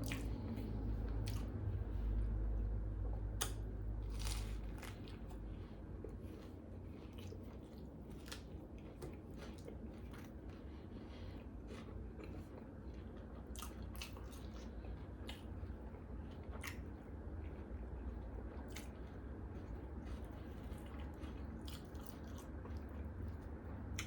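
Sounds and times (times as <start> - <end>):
low steady hum: 0.0 - 24.0
person chewing crunchy food: 0.0 - 24.0.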